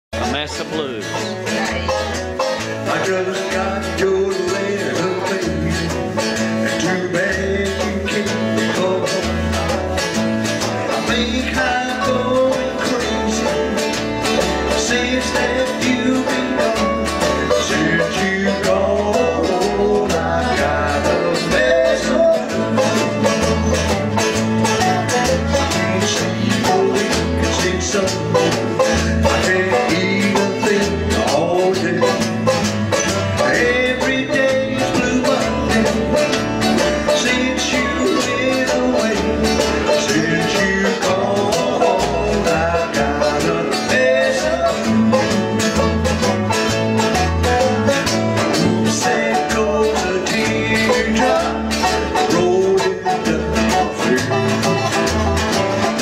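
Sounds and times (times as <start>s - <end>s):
acoustic string band playing blues: 0.1s - 56.0s.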